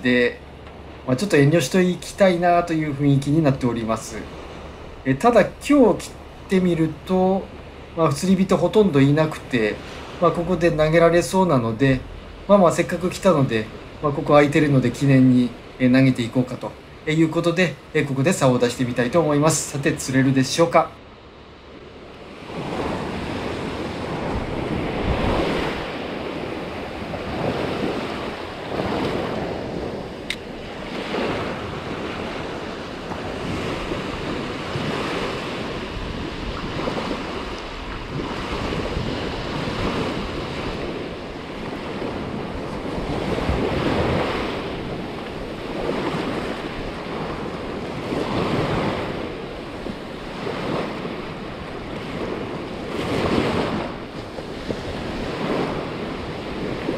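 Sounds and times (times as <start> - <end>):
waves washing up a beach: 0.0 - 56.9
wind buffeting microphone: 4.2 - 17.1, 21.0 - 56.9.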